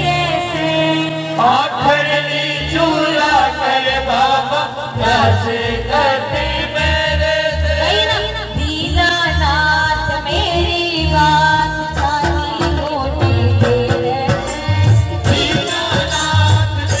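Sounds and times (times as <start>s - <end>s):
amplified instrumental accompaniment: 0.0s - 17.0s
woman singing devotional song: 0.0s - 17.0s.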